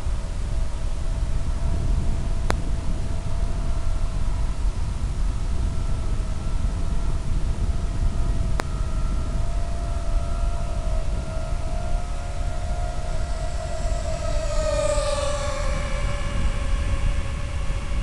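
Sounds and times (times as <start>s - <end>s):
electric motor whine: 0.0s - 18.0s
wind rush: 0.0s - 18.0s.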